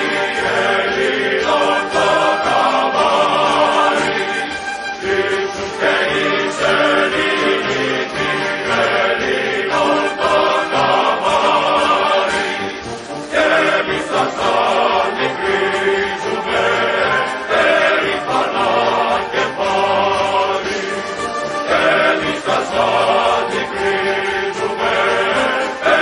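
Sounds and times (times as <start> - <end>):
choir singing sustained notes: 0.0 - 26.0.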